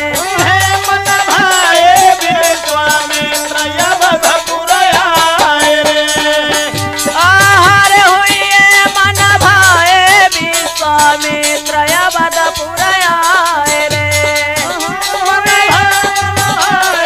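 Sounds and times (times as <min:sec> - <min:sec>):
jingling rattle percussion: 0:00.0 - 0:17.0.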